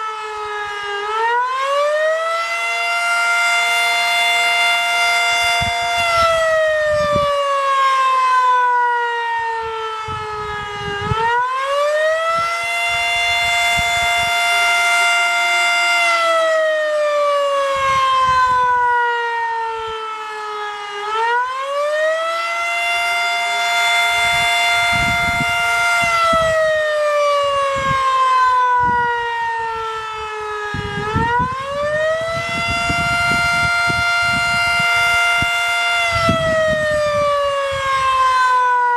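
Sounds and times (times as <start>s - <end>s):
rising and falling fire siren: 0.0s - 38.9s.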